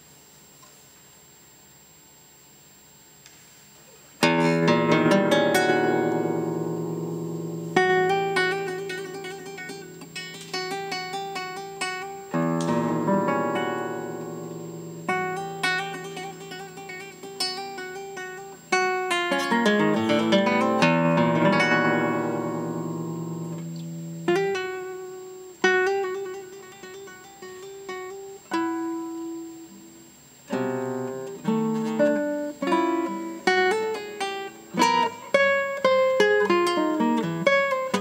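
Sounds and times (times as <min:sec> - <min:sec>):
classical guitar playing: 0:04.2 - 0:38.0.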